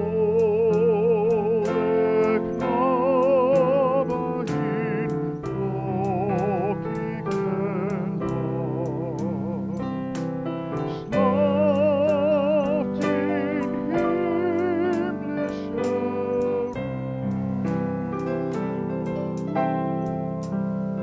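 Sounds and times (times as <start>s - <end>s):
piano chords: 0.0s - 21.0s
wavering held melody: 0.0s - 21.0s.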